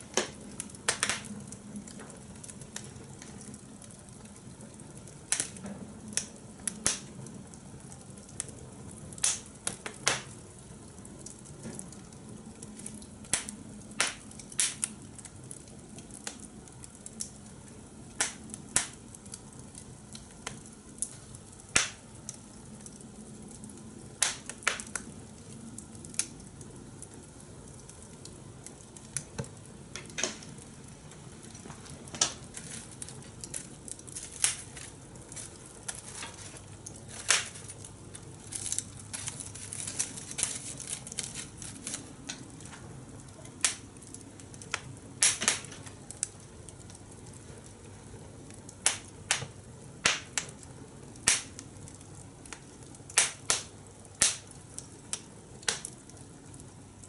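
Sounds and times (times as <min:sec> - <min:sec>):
fire crackling and popping: 0:00.0 - 0:57.0
low steady hiss: 0:00.0 - 0:57.0.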